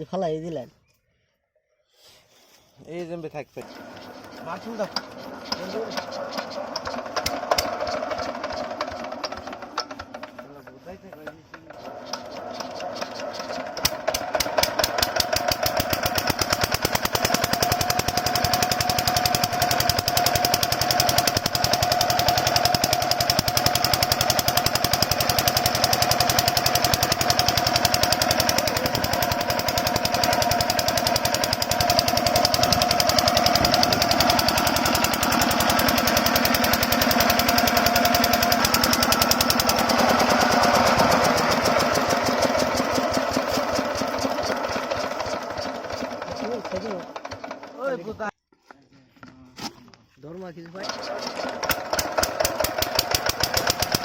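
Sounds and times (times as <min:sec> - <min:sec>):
diesel water pump engine running: 0:03.6 - 0:47.7, 0:50.8 - 0:54.0.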